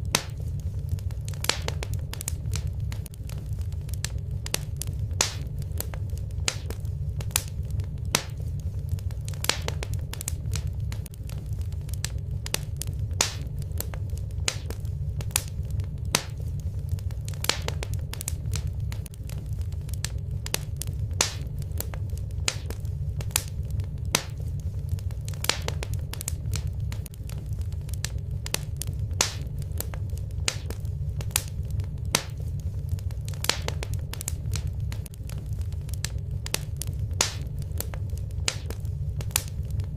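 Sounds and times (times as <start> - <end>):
fire crackling and popping: 0.0 - 39.9
low fire rumble: 0.0 - 39.9.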